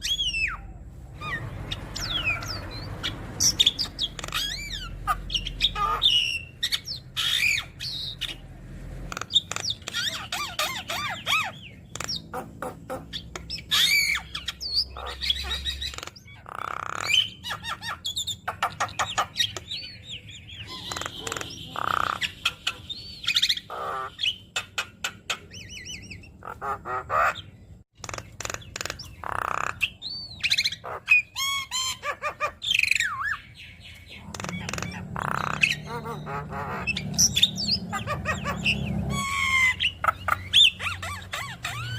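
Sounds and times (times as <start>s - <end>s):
myna bird singing: 0.0s - 41.9s.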